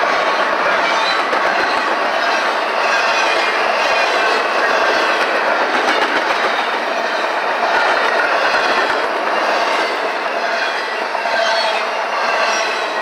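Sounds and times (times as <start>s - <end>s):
steel wheels on rails: 0.0s - 13.0s.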